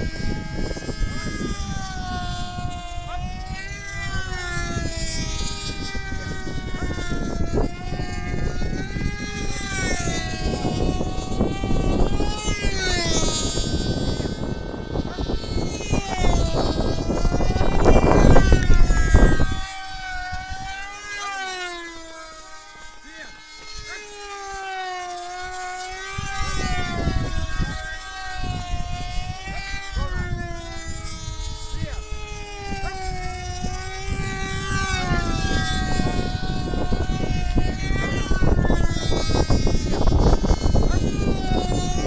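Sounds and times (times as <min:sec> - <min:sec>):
model aircraft engines whining: 0:00.0 - 0:42.0
wind rumble on microphone: 0:00.0 - 0:42.0.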